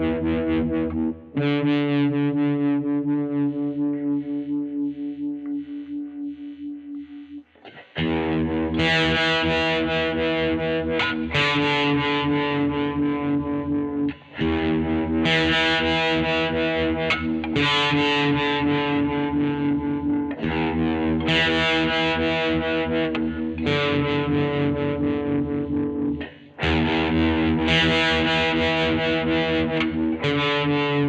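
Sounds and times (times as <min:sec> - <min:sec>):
distorted electric guitar chords: 0:00.0 - 0:31.0.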